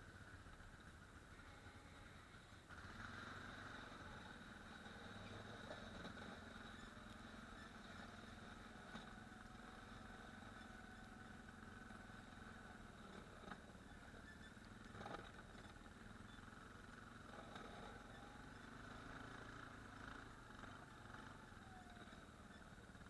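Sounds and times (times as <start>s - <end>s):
faint atv engine running: 0.0s - 23.0s.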